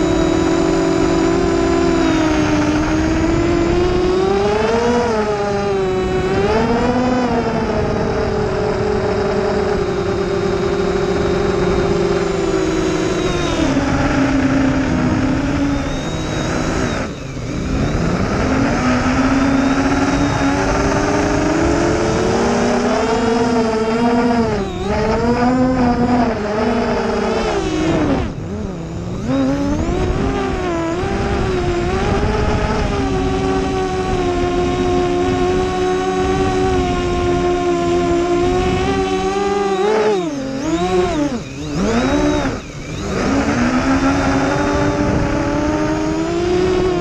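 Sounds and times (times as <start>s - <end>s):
quadcopter motors buzzing whine: 0.0s - 47.0s.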